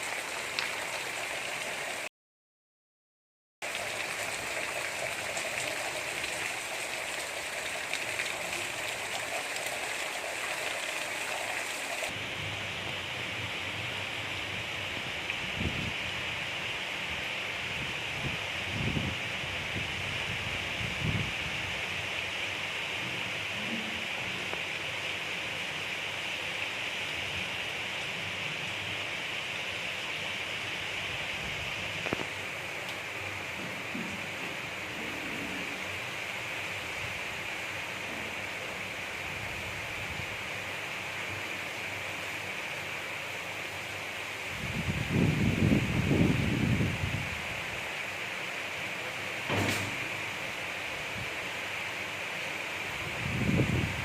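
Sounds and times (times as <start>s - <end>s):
gentle rain pattering: 0.0s - 2.1s, 3.6s - 54.0s.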